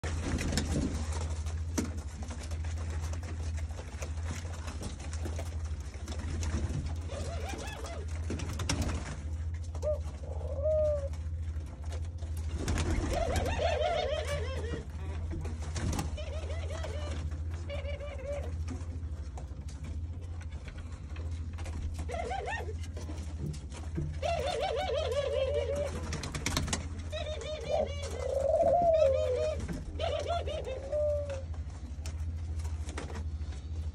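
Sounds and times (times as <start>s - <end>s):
doves cooing: 0.0s - 33.9s
low steady hum: 0.0s - 33.9s
wings fluttering: 0.0s - 33.9s.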